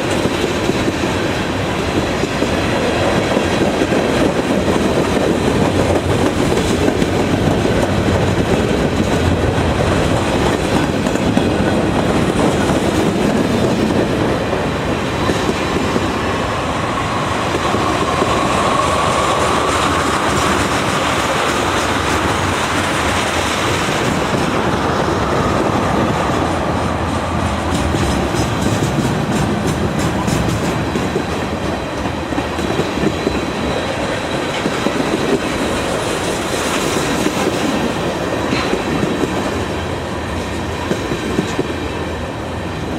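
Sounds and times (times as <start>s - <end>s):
clickety-clack over rail joints: 0.0s - 42.9s
train wheels rumbling: 0.0s - 42.9s.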